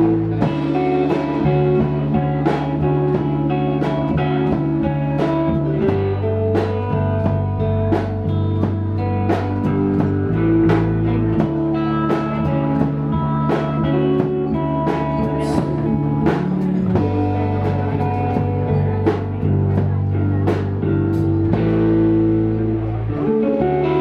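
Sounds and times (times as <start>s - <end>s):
drum and cymbal hits: 0.0s - 22.6s
live rock band playing: 0.0s - 24.0s.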